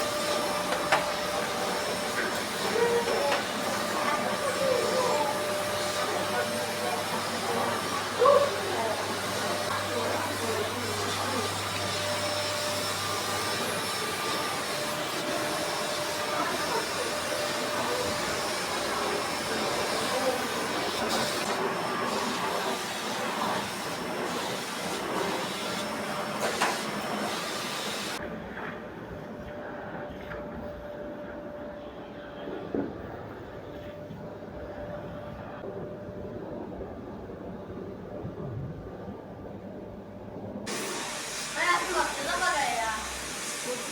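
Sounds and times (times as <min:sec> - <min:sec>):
vacuum cleaner running: 0:00.0 - 0:36.2, 0:40.7 - 0:43.9.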